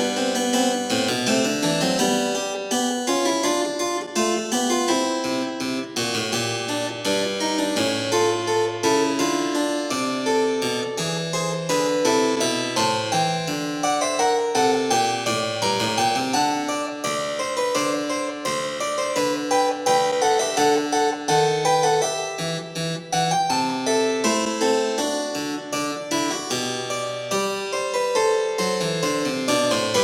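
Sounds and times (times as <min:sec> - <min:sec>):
harpsichord-like keyboard music: 0:00.0 - 0:30.0.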